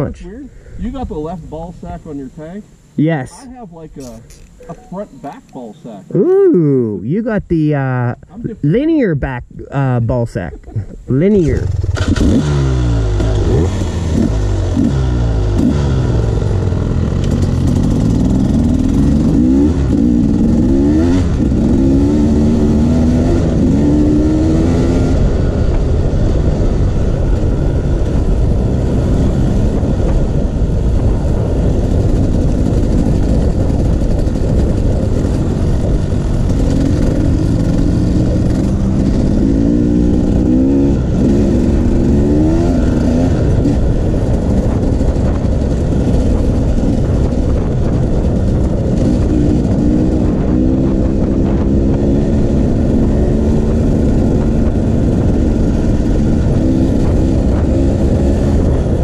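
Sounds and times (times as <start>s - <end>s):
dirt bike engine revving: 10.5s - 59.0s.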